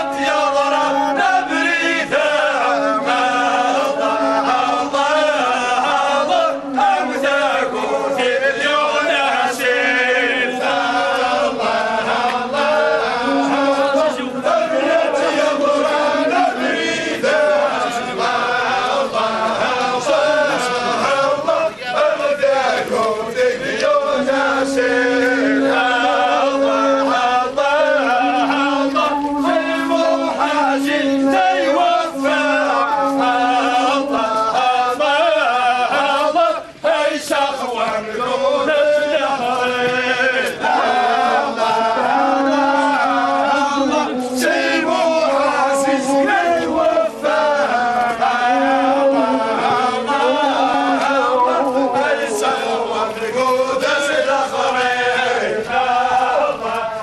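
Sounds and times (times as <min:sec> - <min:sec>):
men chanting together: 0:00.0 - 0:57.0.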